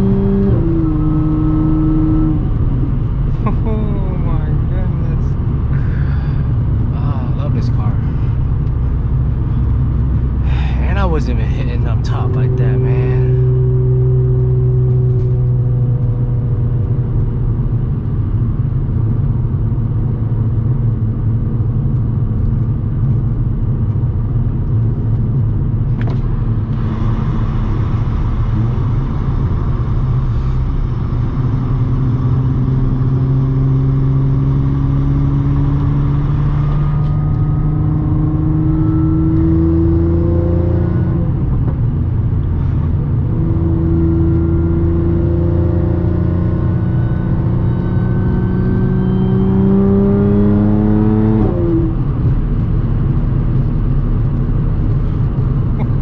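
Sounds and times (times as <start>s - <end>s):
car engine while driving: 0.0s - 56.0s
road and wind noise: 0.0s - 56.0s.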